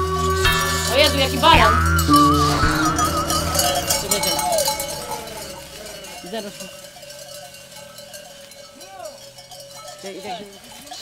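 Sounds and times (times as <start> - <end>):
sheep bells clinking: 0.0 - 11.0.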